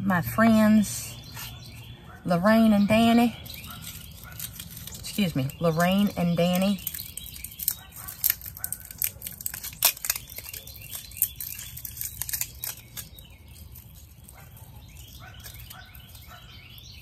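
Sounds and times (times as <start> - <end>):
dry tinder crackling: 1.2 - 17.0.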